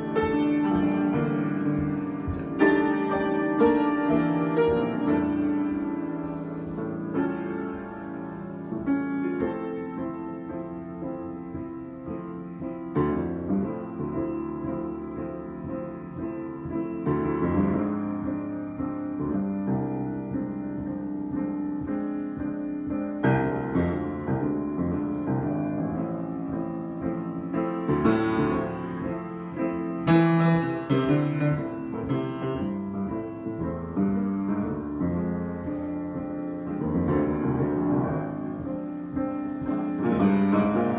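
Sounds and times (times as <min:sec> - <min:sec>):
slow piano chords: 0:00.0 - 0:40.9.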